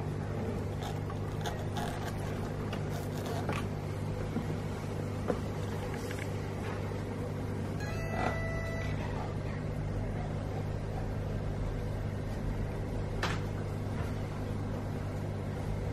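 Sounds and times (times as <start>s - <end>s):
aquarium equipment humming: 0.0s - 15.9s.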